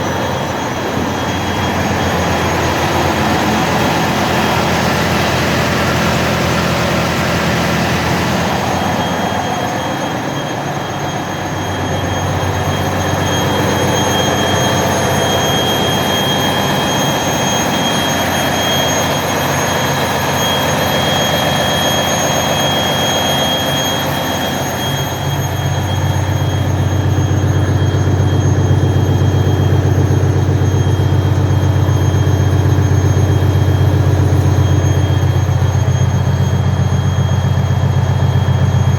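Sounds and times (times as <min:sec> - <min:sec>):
deep low drone: 0:00.0 - 0:38.9
engine-room machinery din: 0:00.0 - 0:38.9
high machine whine: 0:00.0 - 0:38.9.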